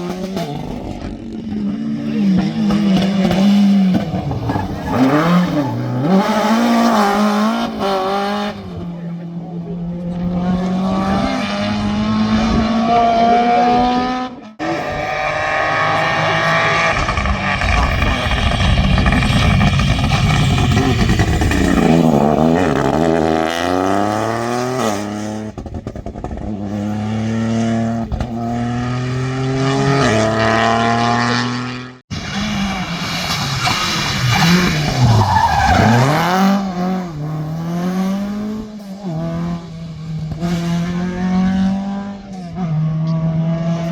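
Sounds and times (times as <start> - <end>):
rally car engines accelerating: 0.0 - 43.9.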